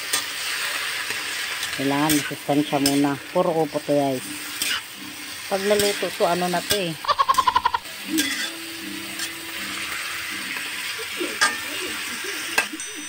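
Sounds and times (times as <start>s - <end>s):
metal spatula scraping in a wok: 0.0s - 7.3s, 7.9s - 12.7s
light sizzle: 0.0s - 13.0s.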